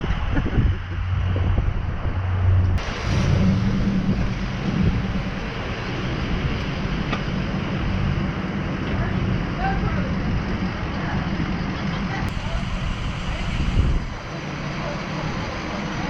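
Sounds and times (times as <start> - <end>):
motor vehicle engine droning: 0.0 - 16.0
road and wind noise: 0.0 - 16.0.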